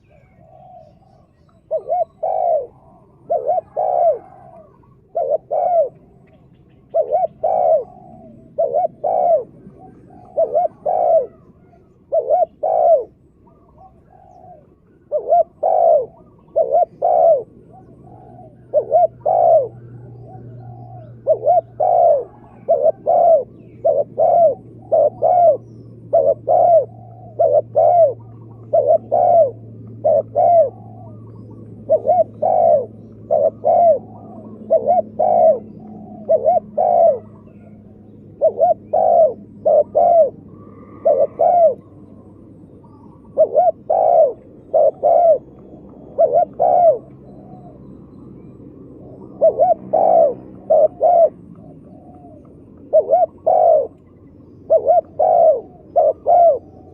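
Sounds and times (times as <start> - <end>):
dove cooing: 0.0 - 56.9
faint steady hum: 0.0 - 56.9.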